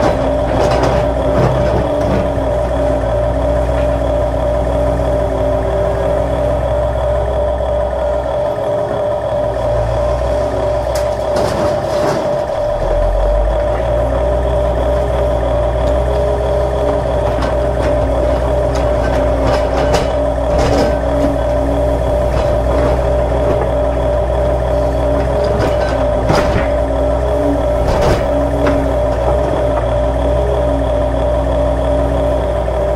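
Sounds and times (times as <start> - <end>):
wavering high whine: 1.7 - 32.9.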